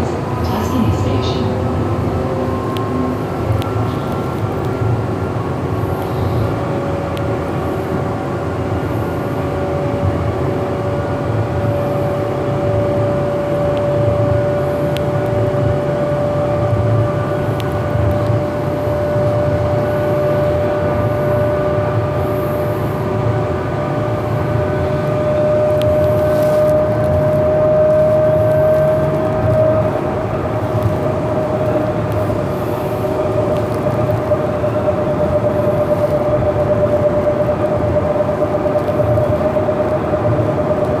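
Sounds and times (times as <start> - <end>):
traction motor whine: 0.0 - 41.0
wheels rumbling on rails: 0.0 - 41.0.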